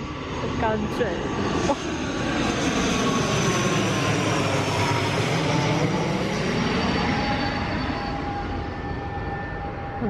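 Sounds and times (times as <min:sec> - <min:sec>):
airliner flying overhead: 0:00.0 - 0:10.0
jet engine whine: 0:00.0 - 0:10.0.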